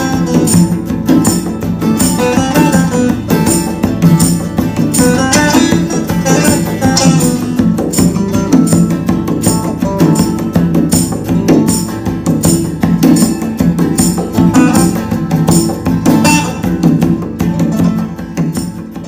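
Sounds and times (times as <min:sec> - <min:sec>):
music with percussive beat and strings: 0:00.0 - 0:19.0.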